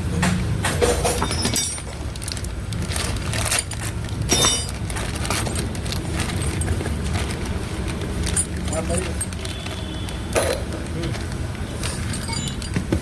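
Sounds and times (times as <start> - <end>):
small metal parts clinking: 0.8 - 13.0.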